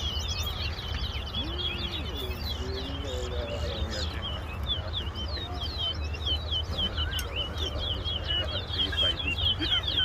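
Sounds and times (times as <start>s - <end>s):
finch singing high chirps: 0.0s - 10.0s.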